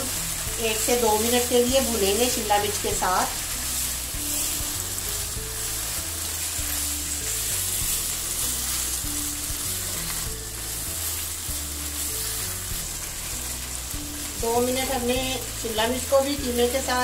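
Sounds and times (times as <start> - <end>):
meat and peppers sizzling in oil: 0.0 - 17.0
spatula stirring in pan: 0.2 - 14.4.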